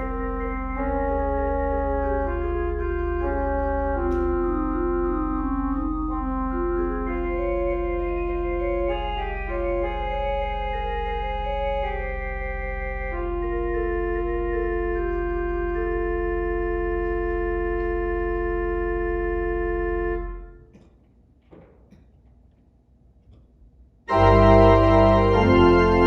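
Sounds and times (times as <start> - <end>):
organ playing sustained chords: 0.0 - 20.6, 24.1 - 26.0.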